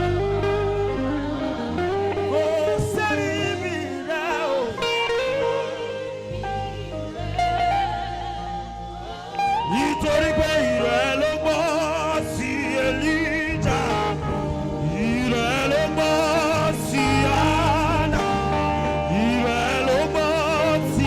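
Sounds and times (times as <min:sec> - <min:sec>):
deep bass line: 0:00.0 - 0:04.2, 0:05.2 - 0:21.0
keyboard chords: 0:00.0 - 0:21.0
saxophone slow melody: 0:00.0 - 0:21.0.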